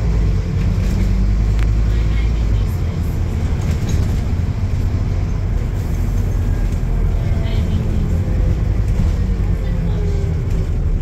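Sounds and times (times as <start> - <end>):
bus diesel engine droning: 0.0 - 11.0
road noise: 0.0 - 11.0.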